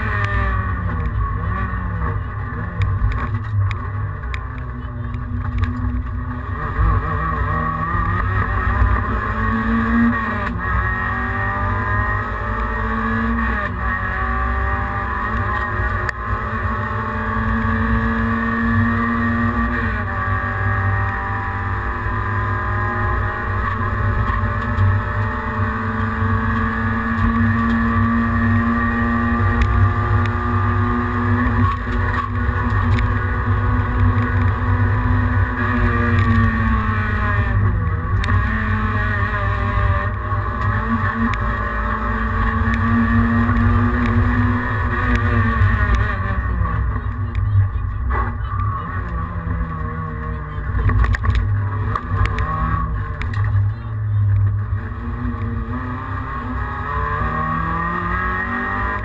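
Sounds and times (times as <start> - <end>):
car engine accelerating hard: 0.0 - 59.0
road and tyre noise: 0.0 - 59.0.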